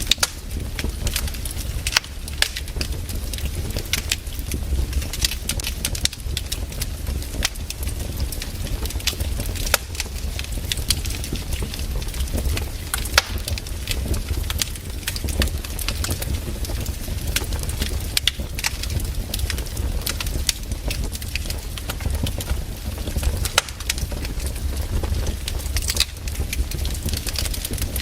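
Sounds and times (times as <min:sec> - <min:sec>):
fire low rumble: 0:00.0 - 0:28.0
wood fire crackling and popping: 0:00.0 - 0:28.0.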